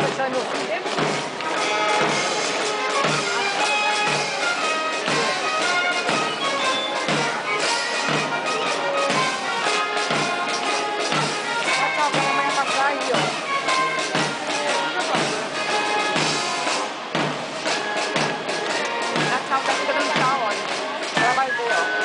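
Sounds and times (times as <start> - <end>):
brass band music: 0.0 - 22.0
low drum beat: 0.0 - 22.0.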